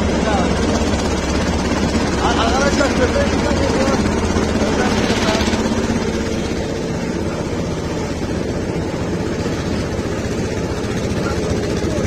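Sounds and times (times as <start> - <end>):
small tractor engine running: 0.0 - 12.0.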